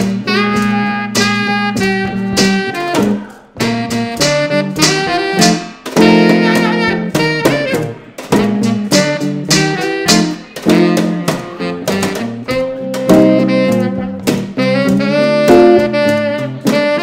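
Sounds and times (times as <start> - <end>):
jazz-blues band playing: 0.0 - 17.0
sharp rhythmic strikes: 0.0 - 17.0
tenor saxophone melody: 0.0 - 17.0.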